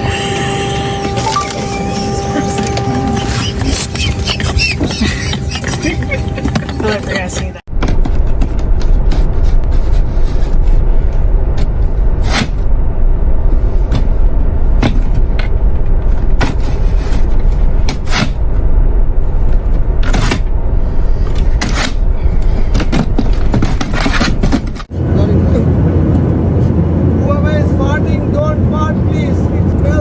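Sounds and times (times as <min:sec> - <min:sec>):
airliner engine rumble: 0:00.0 - 0:30.0.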